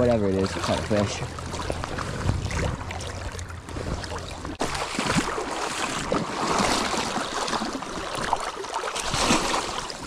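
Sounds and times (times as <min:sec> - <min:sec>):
creek water splashing: 0:00.0 - 0:10.0.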